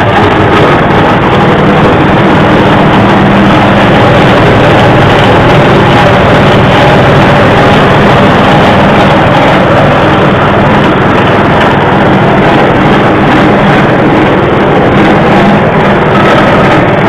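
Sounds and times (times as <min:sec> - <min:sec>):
cutting rotor noise: 0:00.0 - 0:17.0
motor drone: 0:00.0 - 0:17.0.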